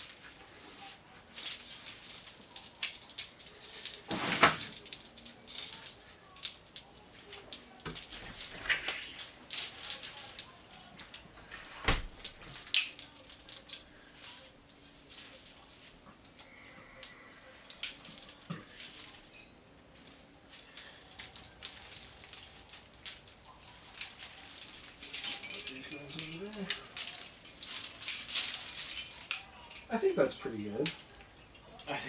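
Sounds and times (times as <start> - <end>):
metal climbing gear clinking: 0.0 - 32.0.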